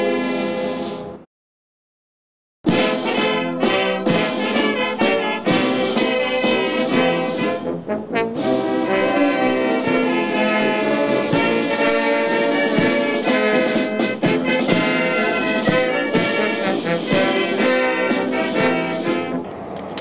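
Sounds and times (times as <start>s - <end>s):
brass band playing chords: 0.0s - 1.2s, 2.7s - 19.6s.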